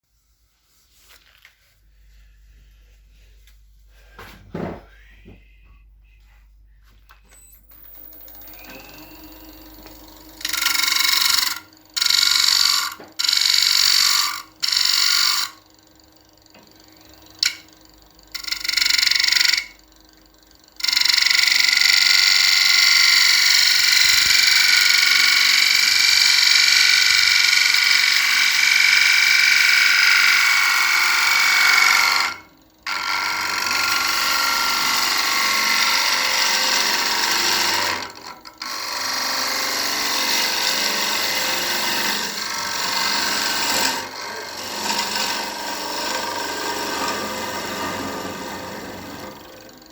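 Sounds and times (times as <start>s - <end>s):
wood lathe tool hissing: 7.7s - 49.9s.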